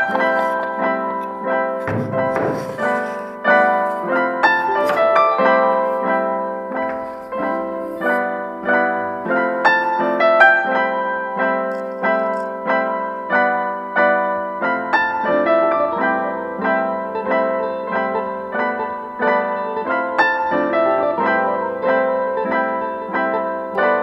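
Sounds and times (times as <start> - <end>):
piano single notes: 0.0 - 24.0.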